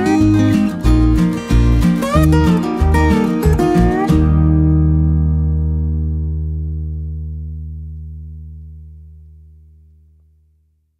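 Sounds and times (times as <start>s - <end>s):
acoustic guitar music: 0.0s - 9.6s.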